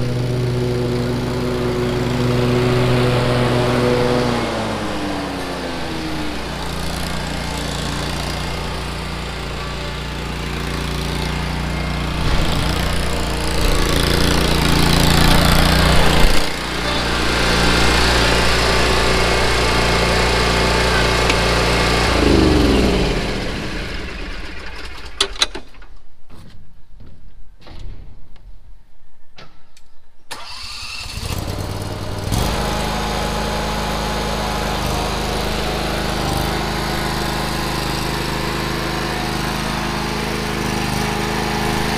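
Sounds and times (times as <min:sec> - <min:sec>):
lawn mower engine running: 0:00.0 - 0:25.6, 0:30.3 - 0:41.9.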